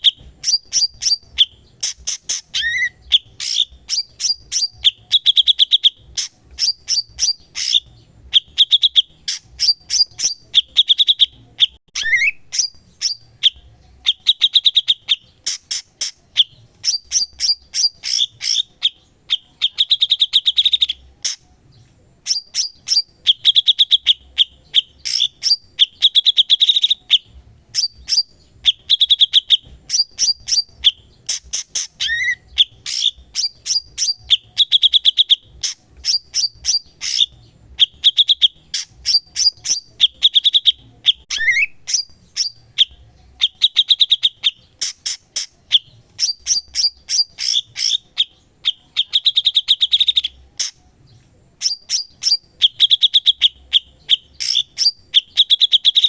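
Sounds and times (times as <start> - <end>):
songbird singing chirps and trills: 0.0 - 56.0.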